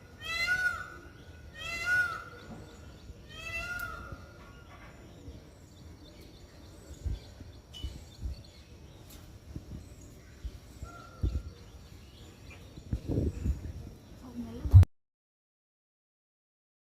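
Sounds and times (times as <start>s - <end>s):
faint bird chirps: 0.0s - 14.8s.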